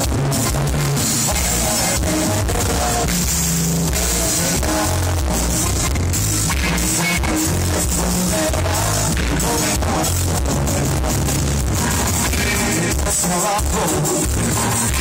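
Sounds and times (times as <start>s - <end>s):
live band playing amplified music: 0.0s - 15.0s
prominent bass line: 0.0s - 15.0s.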